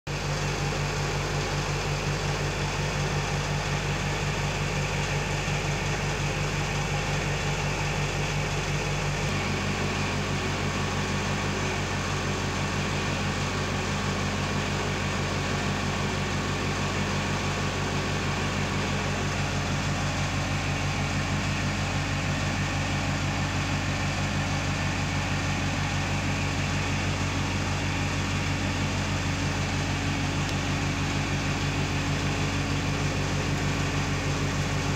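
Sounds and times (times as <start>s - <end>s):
engine droning: 0.1s - 34.9s.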